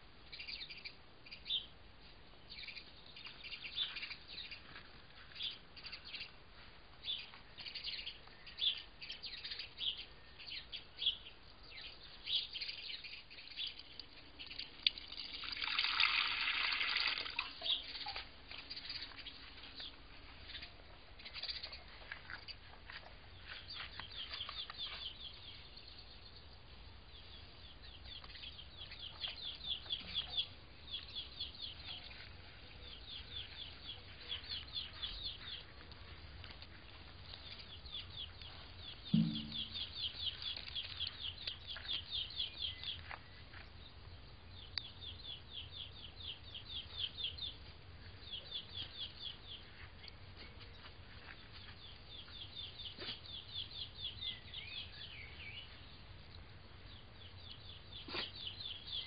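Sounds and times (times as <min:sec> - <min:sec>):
small birds chirping: 0:00.0 - 0:15.7, 0:16.9 - 0:59.0.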